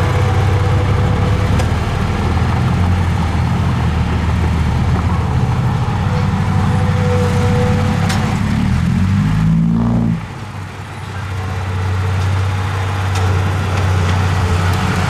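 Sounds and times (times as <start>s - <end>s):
heavy diesel engine working: 0.0s - 15.0s.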